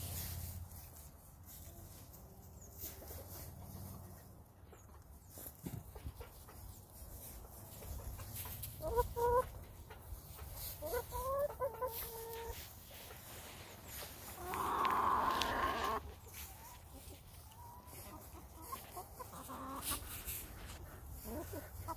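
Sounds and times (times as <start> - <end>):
hens clucking: 0.9 - 21.9.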